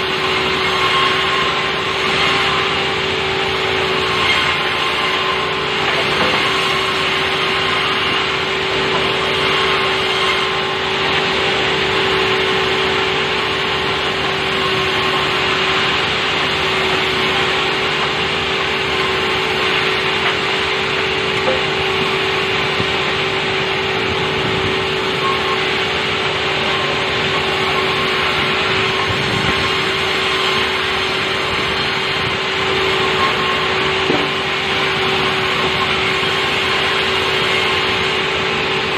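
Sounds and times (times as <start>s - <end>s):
sawmill saw cutting wood: 0.0s - 38.9s.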